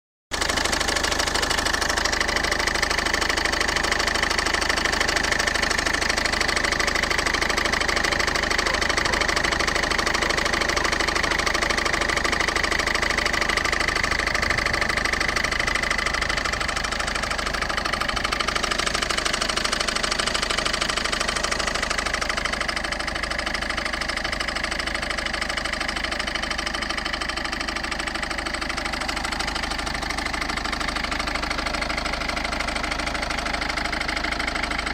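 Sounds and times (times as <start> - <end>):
diesel engine idling: 0.3 - 34.9
rapid knocking clatter: 0.3 - 34.9.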